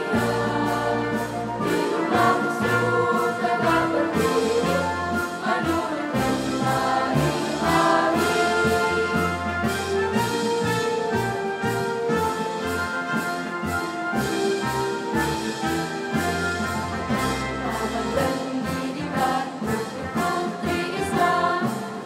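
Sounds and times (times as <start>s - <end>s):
girls' choir singing a march: 0.0s - 22.0s.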